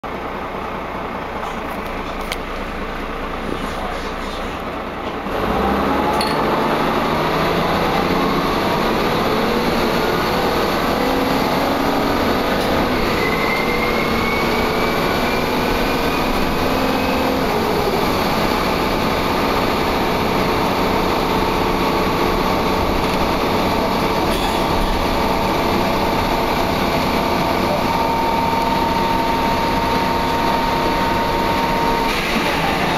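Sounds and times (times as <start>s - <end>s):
bus engine accelerating: 0.0s - 32.9s.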